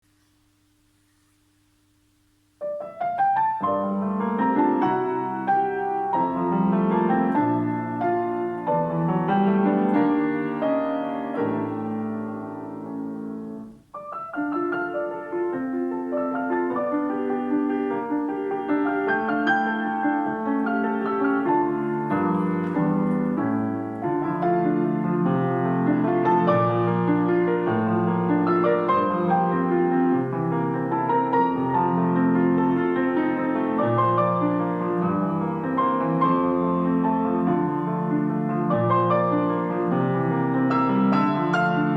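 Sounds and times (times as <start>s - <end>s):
piano duet: 0.0s - 41.9s.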